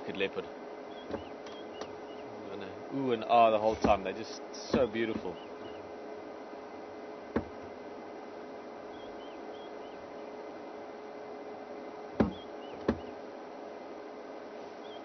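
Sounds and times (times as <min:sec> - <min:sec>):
faint hum: 0:00.0 - 0:15.0
steady hiss: 0:00.0 - 0:15.0.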